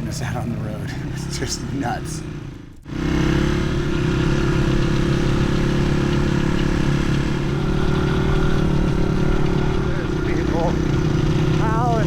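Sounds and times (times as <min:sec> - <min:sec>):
dirt bike engine running steadily: 0:00.0 - 0:12.0.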